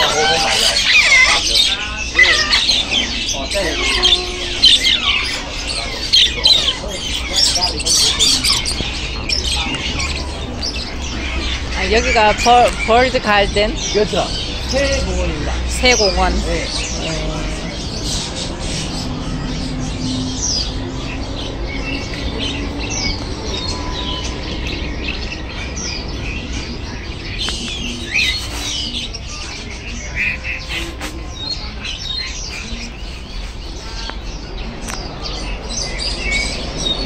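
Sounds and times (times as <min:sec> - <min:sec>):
songbirds chirping and calling: 0:00.0 - 0:37.0.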